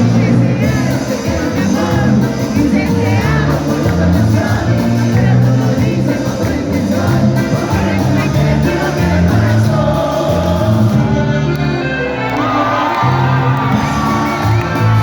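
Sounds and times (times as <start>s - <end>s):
bass line: 0.0s - 15.0s
live cumbia band playing: 0.0s - 15.0s.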